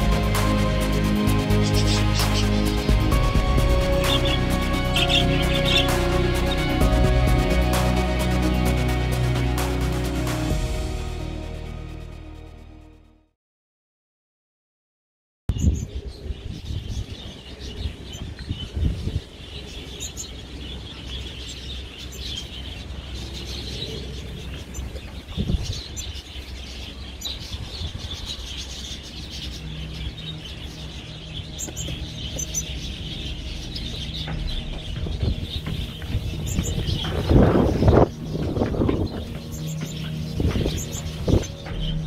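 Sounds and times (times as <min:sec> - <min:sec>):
small birds chirping: 0:00.0 - 0:08.5, 0:15.5 - 0:42.0.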